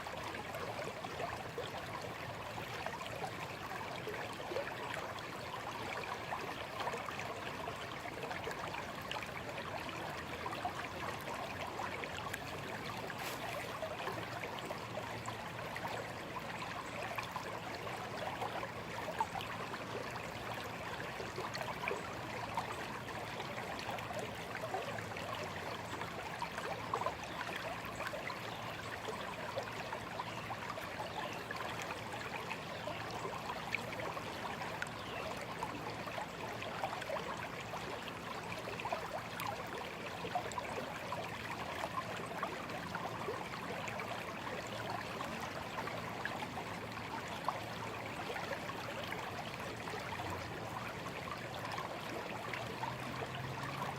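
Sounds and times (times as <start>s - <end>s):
stream babbling over stones: 0.0s - 53.9s.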